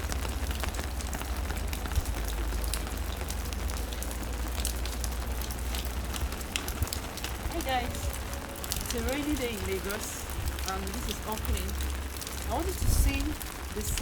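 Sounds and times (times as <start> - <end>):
raindrops ticking: 0.0 - 14.0
steady rain falling: 0.0 - 14.0.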